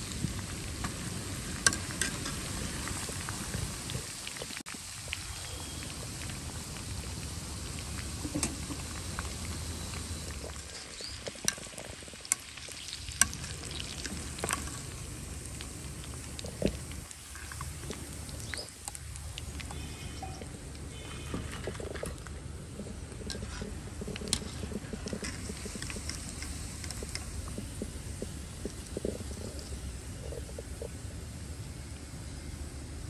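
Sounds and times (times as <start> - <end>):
food sizzling in hot oil: 0.0 - 21.0, 22.6 - 31.6.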